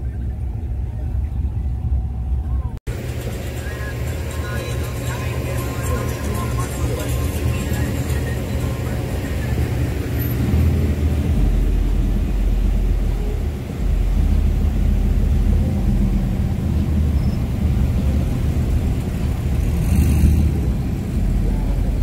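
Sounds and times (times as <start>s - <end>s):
truck exhaust rumbling: 0.0s - 22.0s.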